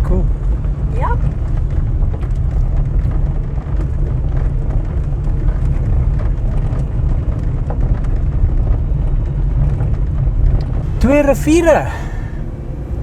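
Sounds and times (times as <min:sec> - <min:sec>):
vehicle rumbling on gravel road: 0:00.0 - 0:13.0.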